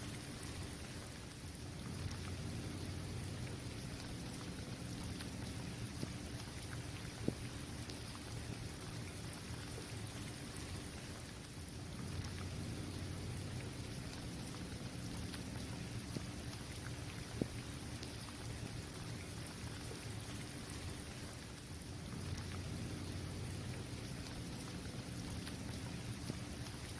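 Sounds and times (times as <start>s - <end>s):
rain falling on pavement: 0.0s - 26.9s
raindrops ticking: 0.0s - 26.9s.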